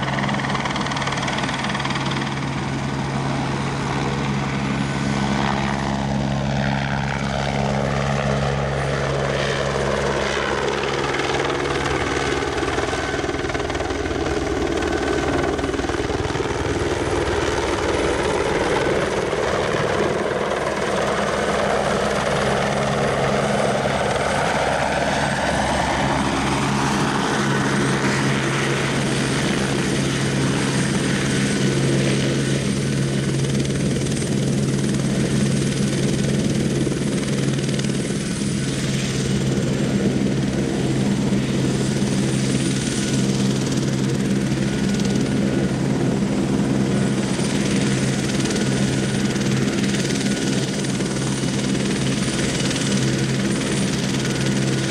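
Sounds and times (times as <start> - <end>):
helicopter rotor noise: 0.0 - 54.9.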